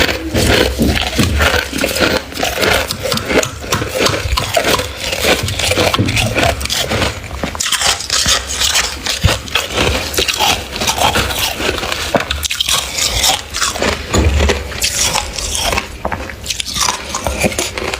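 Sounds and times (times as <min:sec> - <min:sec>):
chewing crunchy freezer frost: 0:00.0 - 0:17.9.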